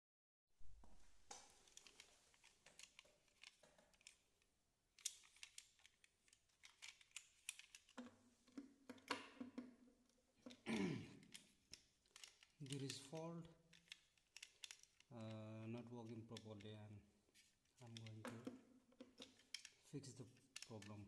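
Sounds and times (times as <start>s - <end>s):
small objects clicking and tapping: 0.7s - 4.3s, 5.0s - 16.8s, 17.8s - 21.0s.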